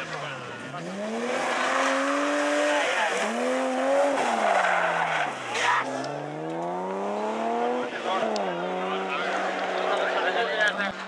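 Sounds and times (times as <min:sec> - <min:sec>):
tyres skidding on tarmac: 0:00.0 - 0:11.0
car engine revving hard: 0:00.7 - 0:10.3.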